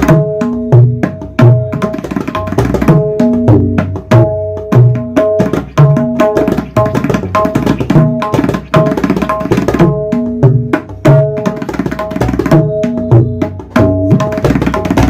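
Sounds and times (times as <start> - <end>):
tabla drumming: 0.0 - 15.0.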